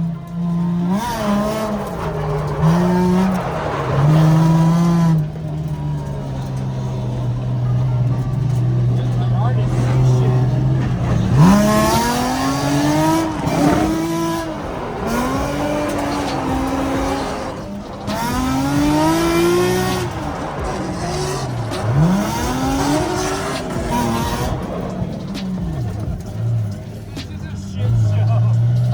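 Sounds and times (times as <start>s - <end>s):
car engine revving hard: 0.0s - 28.9s
tyre squeal: 0.0s - 28.9s.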